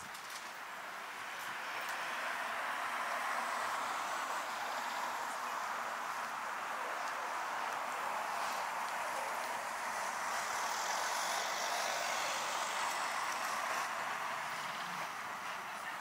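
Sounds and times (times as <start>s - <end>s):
passing cars and tyres: 0.0s - 16.0s.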